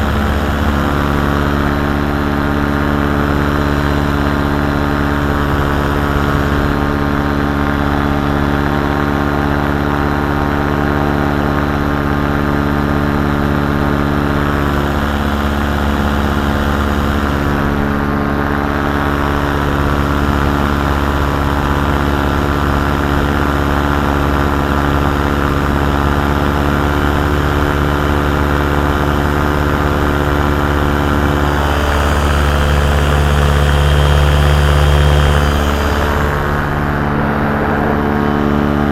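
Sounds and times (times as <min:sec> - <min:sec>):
paramotor engine droning: 0:00.0 - 0:38.9.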